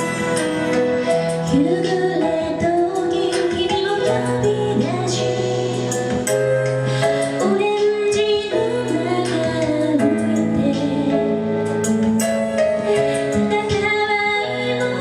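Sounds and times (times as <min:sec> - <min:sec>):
woman singing pop song: 0:00.0 - 0:11.9, 0:12.5 - 0:15.0
instrumental accompaniment: 0:00.0 - 0:15.0.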